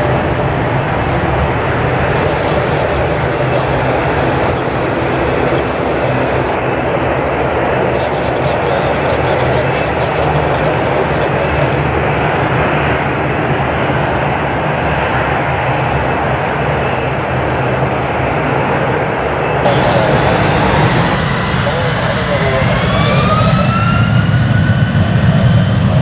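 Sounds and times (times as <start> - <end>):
jet engines roaring: 0.0 - 18.7, 19.4 - 26.0.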